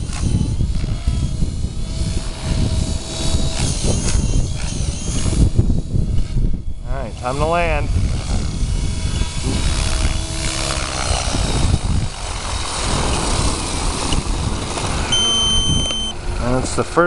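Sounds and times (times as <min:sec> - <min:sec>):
faint motor whine: 0:00.0 - 0:17.0
helicopter rotor and motor: 0:00.0 - 0:17.0
wind buffeting on microphone: 0:00.0 - 0:17.0.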